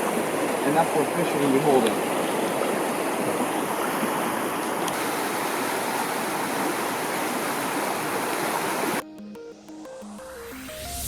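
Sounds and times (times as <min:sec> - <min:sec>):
creek water rushing over riffle: 0:00.0 - 0:09.0.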